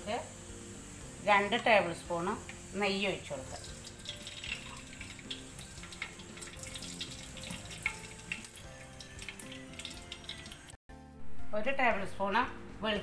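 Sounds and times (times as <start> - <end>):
ghee crackling and sizzling: 0.0 - 10.8.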